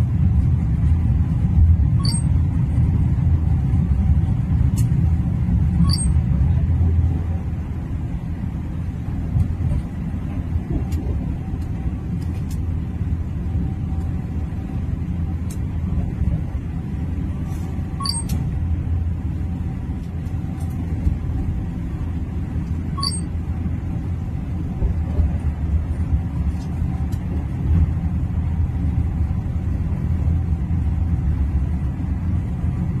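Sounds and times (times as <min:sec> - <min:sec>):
train interior rumble: 0:00.0 - 0:33.0.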